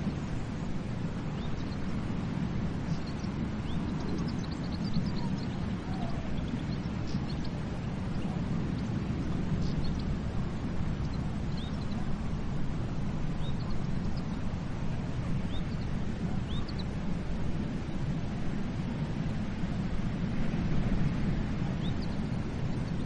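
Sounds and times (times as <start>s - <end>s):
surf washing onto beach: 0.0s - 23.0s.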